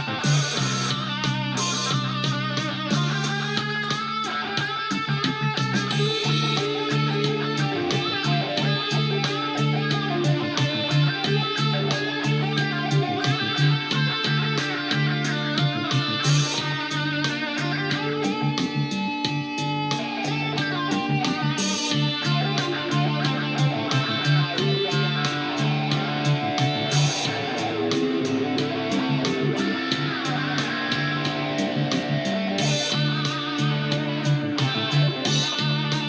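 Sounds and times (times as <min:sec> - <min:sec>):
guitar picked melody: 0:00.0 - 0:36.0.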